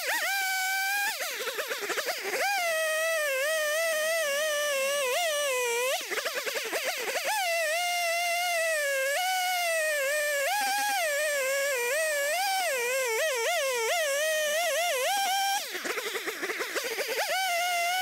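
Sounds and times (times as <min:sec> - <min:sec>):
chainsaw cutting through wood: 0:00.0 - 0:18.0.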